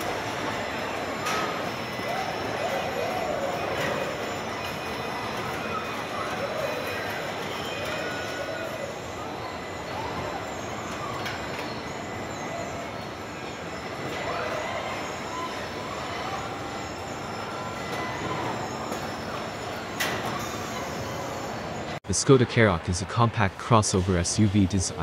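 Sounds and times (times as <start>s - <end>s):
faint voices: 0.0s - 25.0s
workshop machinery din: 0.0s - 25.0s.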